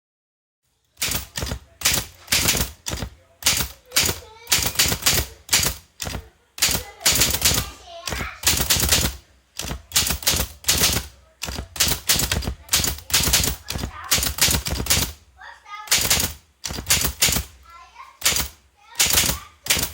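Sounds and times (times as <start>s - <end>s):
typewriter keys clacking: 0.9s - 15.2s, 15.9s - 17.6s, 18.2s - 19.9s.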